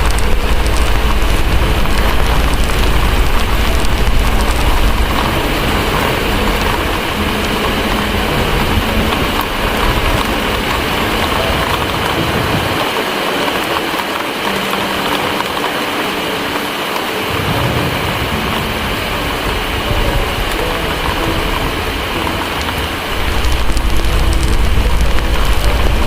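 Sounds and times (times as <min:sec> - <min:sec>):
distant thunder rumble: 0:00.0 - 0:26.0
heavy rain on windows: 0:00.0 - 0:26.0.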